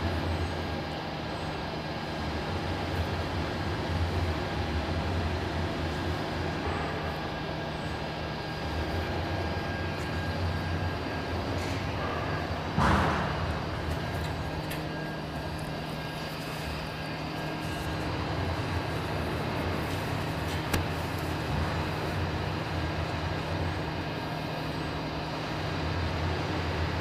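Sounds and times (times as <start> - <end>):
agitator drives humming: 0.0 - 27.0.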